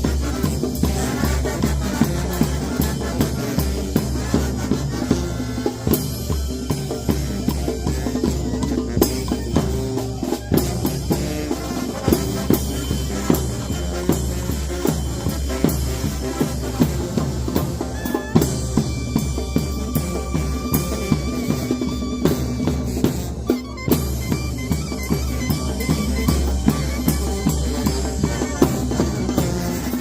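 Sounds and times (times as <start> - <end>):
bass drum and snare beat: 0.0 - 30.0
brass band playing: 0.0 - 30.0.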